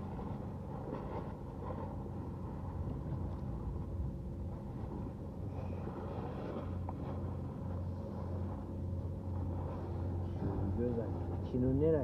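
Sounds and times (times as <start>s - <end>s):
rumbling background noise: 0.0s - 12.0s
steady low hum: 0.0s - 12.0s.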